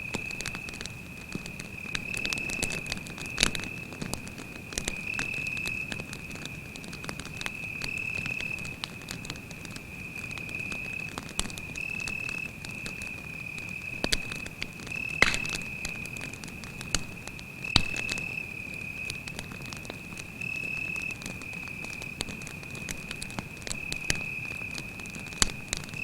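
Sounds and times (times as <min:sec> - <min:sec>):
campfire crackling and popping: 0:00.0 - 0:26.0
cricket trilling: 0:00.0 - 0:26.0.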